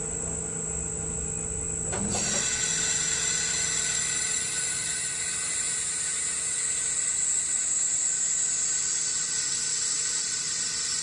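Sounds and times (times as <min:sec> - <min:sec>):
lathe running with whine: 0:02.0 - 0:11.0.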